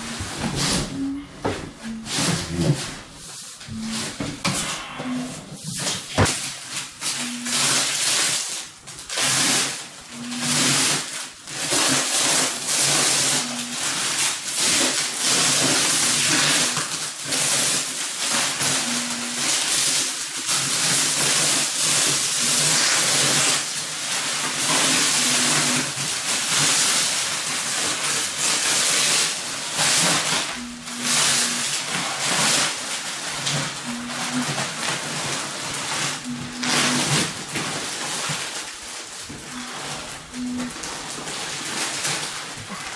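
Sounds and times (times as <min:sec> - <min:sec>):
plastic wrapping crinkling: 0:00.0 - 0:42.9.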